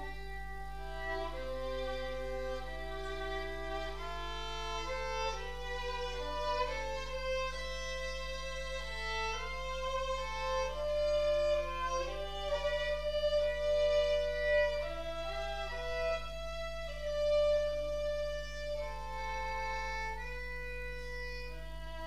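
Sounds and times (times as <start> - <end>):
violin duet: 0.0 - 22.0.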